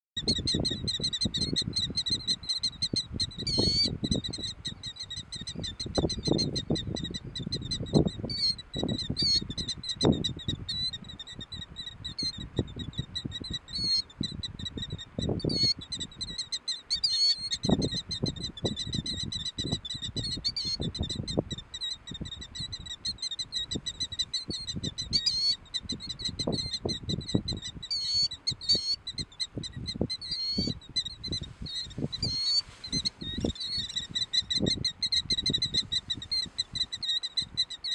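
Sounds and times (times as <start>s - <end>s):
killdeer calling: 0.2s - 37.9s.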